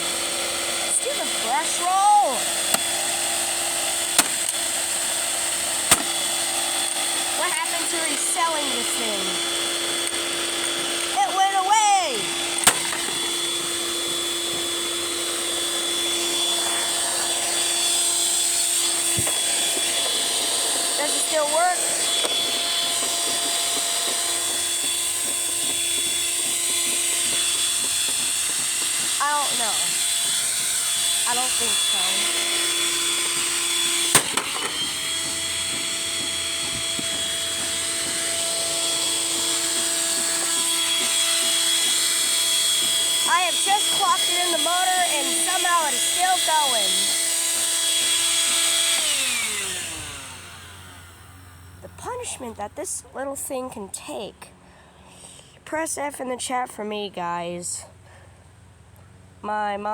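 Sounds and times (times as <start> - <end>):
vacuum cleaner running: 0.0 - 52.8.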